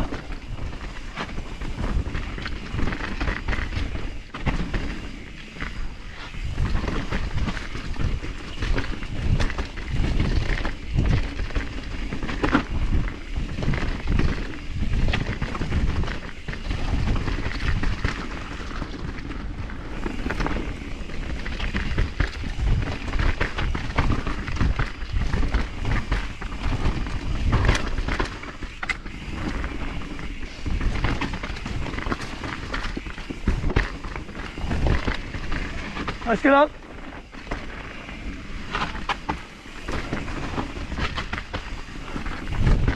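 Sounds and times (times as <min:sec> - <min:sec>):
bike rattling over bumps: 0:00.0 - 0:42.9
wind rumble on microphone: 0:00.0 - 0:42.9.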